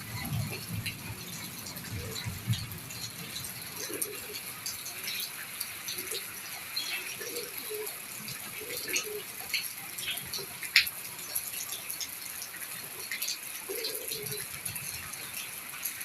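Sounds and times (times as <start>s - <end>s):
rain falling: 0.0s - 16.0s
drips and taps: 0.2s - 16.0s.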